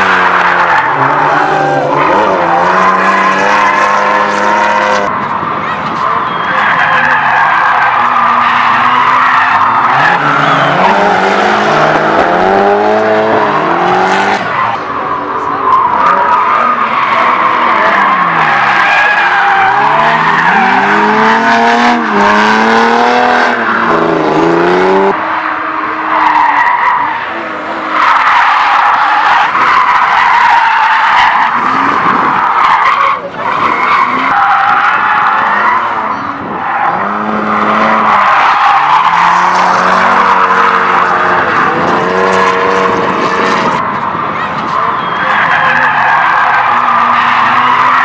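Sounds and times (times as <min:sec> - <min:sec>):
car engines revving: 0:00.0 - 0:48.0
tyres squealing: 0:05.1 - 0:48.0.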